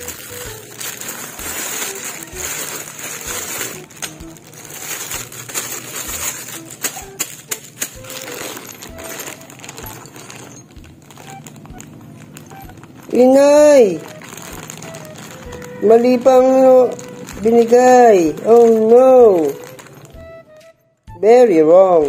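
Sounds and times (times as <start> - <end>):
plastic bags crinkling: 0.0 - 20.7
background music: 0.0 - 22.0.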